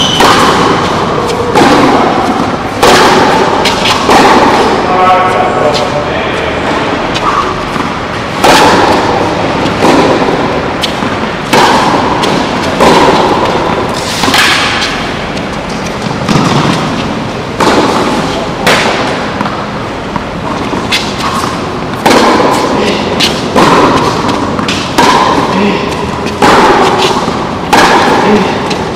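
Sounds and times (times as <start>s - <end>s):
ball bouncing on hard court: 0.0s - 28.9s
tennis ball hit by rackets: 0.0s - 28.9s.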